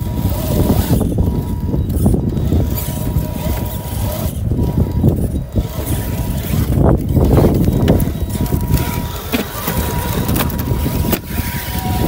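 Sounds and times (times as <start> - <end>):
rc car motor whirring: 0.0 - 12.0
wind rumbling on microphone: 0.0 - 12.0.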